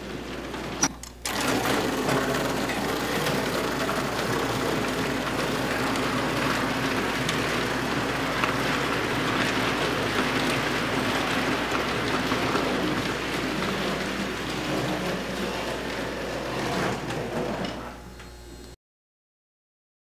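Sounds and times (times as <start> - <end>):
metal wheels rattling on track: 0.0 - 17.5.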